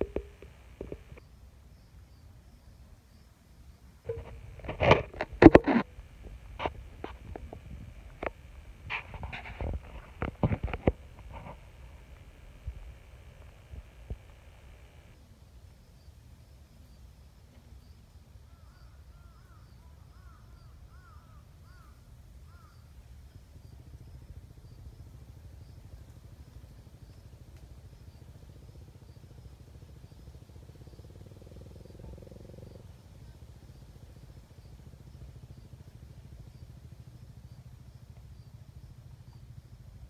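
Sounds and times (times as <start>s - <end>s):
hum: 0.0s - 40.0s
low steady rumble: 0.0s - 40.0s.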